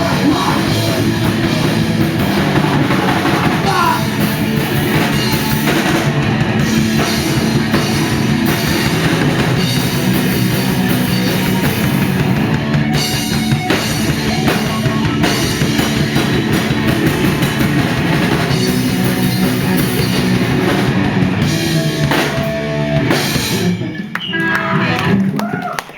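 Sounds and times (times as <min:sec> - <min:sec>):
punk rock band playing: 0:00.0 - 0:25.6
pounding drum kit: 0:00.0 - 0:25.7.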